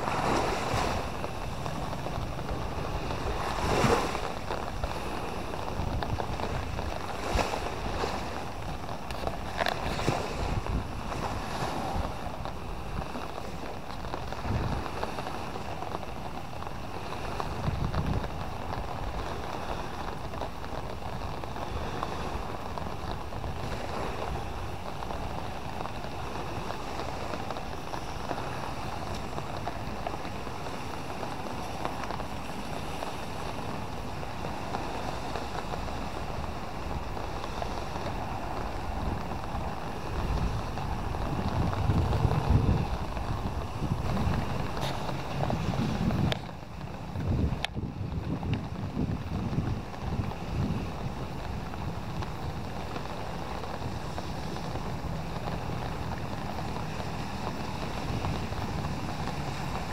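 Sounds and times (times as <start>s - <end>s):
small waves washing on sand: 0.0s - 59.9s
wind blowing across microphone: 0.0s - 59.9s.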